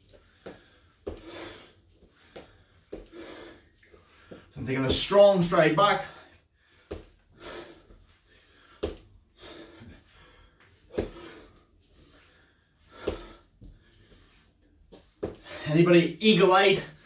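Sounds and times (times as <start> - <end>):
heavy breathing: 0.1 - 4.6, 6.0 - 15.8.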